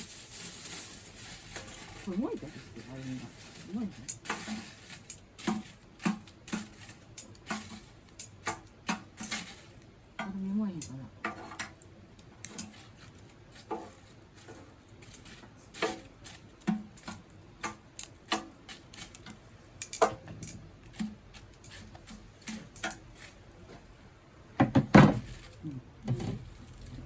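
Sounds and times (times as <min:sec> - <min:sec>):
cookware and utensils clinking: 0:00.0 - 0:11.9, 0:12.5 - 0:23.4.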